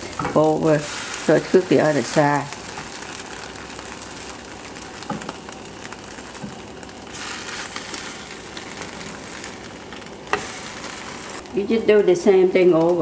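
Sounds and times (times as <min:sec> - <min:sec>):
egg sizzling in a frying pan: 0:00.0 - 0:11.7.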